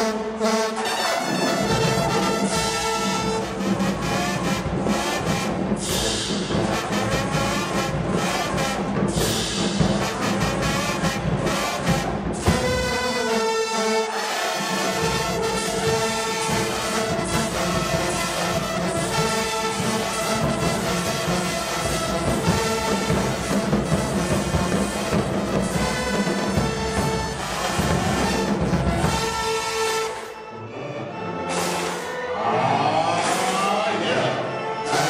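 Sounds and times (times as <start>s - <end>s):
marching band brass chords: 0.0s - 35.0s.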